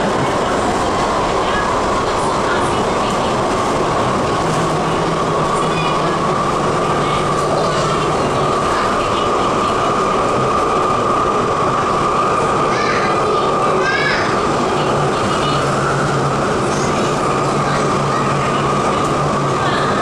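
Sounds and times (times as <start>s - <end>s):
train rumble in tunnel: 0.0s - 20.0s.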